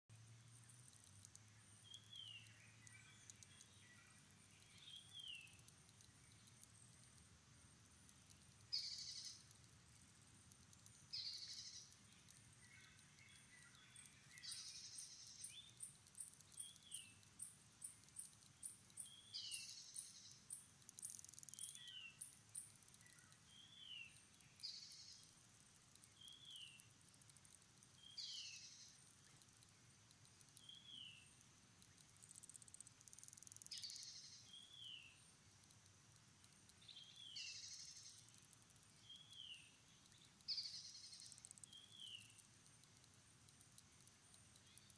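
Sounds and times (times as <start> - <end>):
pulsing insect chirp: 0.2 - 44.9.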